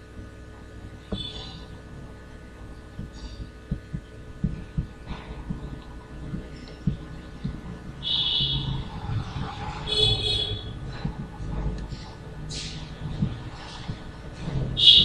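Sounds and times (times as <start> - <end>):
electrical hum: 0.0 - 15.0
soft low thumps: 0.0 - 15.0.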